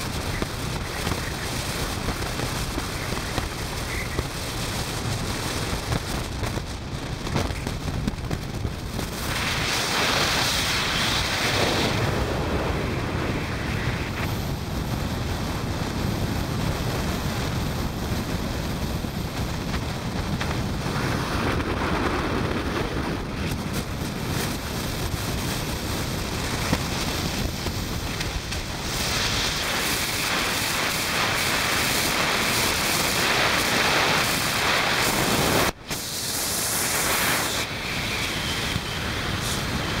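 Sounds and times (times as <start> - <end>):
road noise: 0.0 - 40.0
wind roaring on microphone: 0.0 - 40.0.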